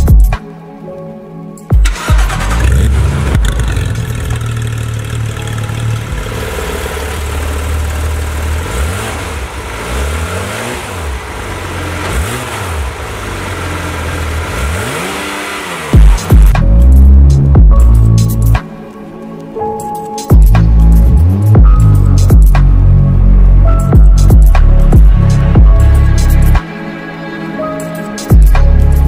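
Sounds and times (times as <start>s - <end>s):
sports car engine idling and revving: 1.8s - 18.6s, 20.3s - 26.6s, 27.9s - 29.0s.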